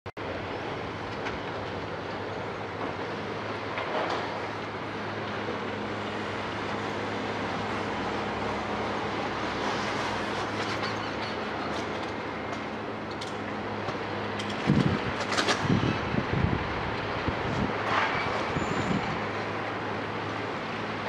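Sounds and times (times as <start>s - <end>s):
excavator diesel engine running: 0.2s - 21.0s.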